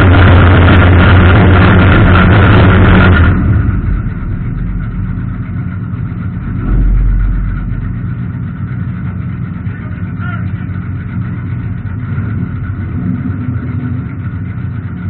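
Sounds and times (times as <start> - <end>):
race car engines idling: 0.0 - 15.0.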